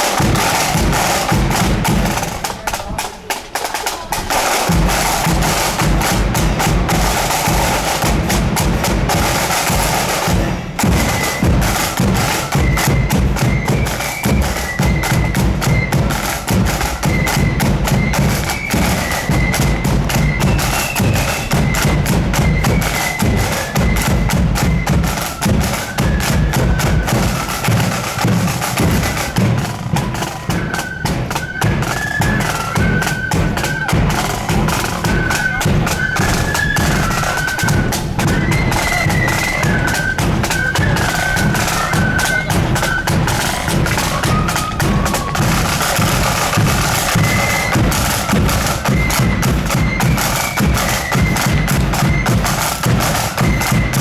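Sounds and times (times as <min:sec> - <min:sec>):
flutes playing high melody: 0:00.0 - 0:02.7, 0:04.2 - 0:54.0
snare and bass drums: 0:00.0 - 0:54.0.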